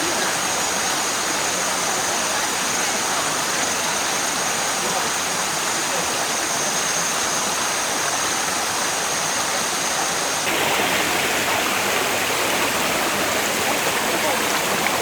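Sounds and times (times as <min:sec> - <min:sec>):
flowing stream water: 0:00.0 - 0:15.0.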